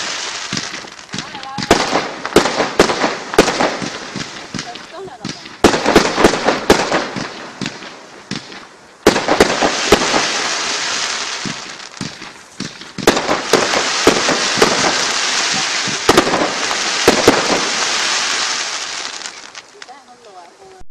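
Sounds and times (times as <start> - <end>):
fireworks bangs: 0.0 - 20.8
fireworks crackling: 0.0 - 20.9.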